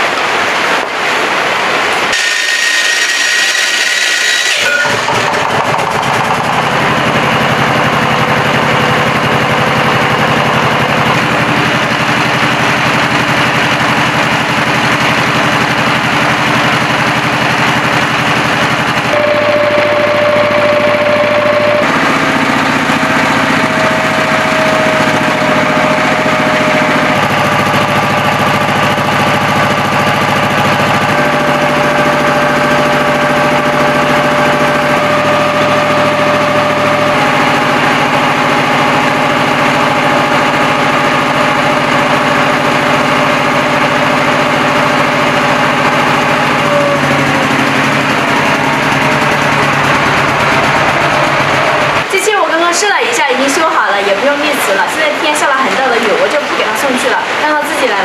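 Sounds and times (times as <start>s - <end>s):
diesel engine running: 0.0s - 58.0s
generator whine: 0.0s - 58.0s.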